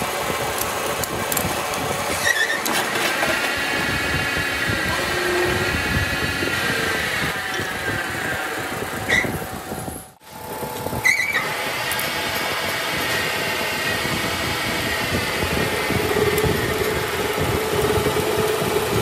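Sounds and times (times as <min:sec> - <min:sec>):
lathe motor whining: 0:00.0 - 0:19.0.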